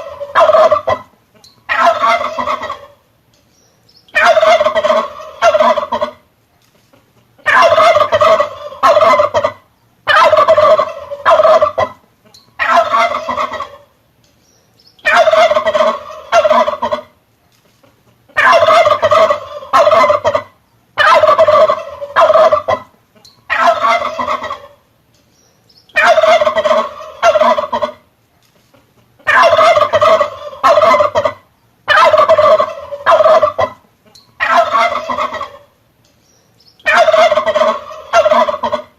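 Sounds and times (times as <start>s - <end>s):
turkey gobbling: 0.0s - 3.1s, 4.0s - 6.3s, 7.0s - 14.0s, 15.0s - 17.2s, 17.9s - 24.9s, 25.9s - 28.1s, 28.8s - 35.8s, 36.7s - 38.9s.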